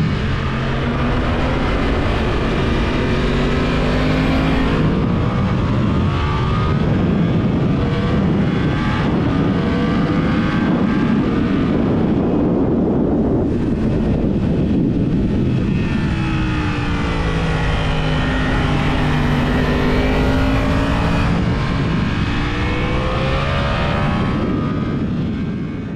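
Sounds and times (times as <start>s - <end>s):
motorcycle engine revving: 0.0s - 25.9s
wind rush: 0.0s - 25.9s.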